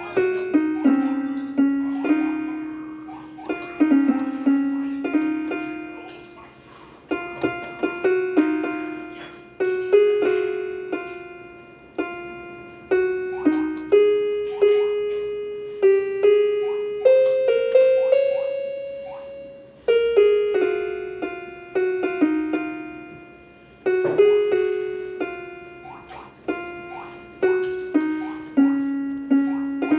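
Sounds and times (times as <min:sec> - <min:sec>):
keyboard harp melody: 0:00.0 - 0:29.9.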